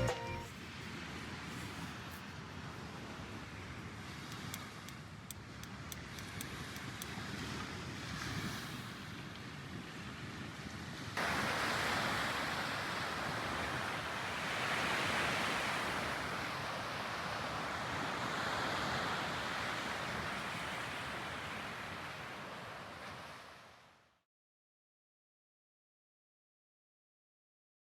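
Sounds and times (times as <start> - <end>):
sea waves washing onto beach: 0.8 - 23.9.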